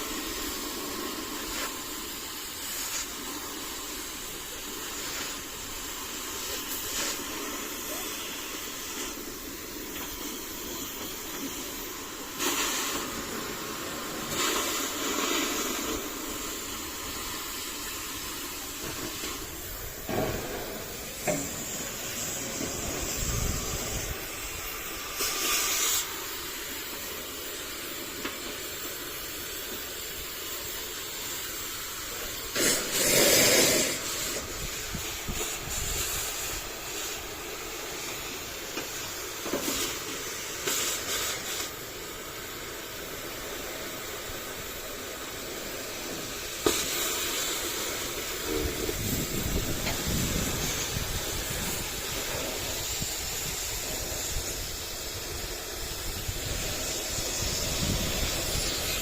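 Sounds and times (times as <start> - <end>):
cutting torch hissing: 0.0 - 59.0.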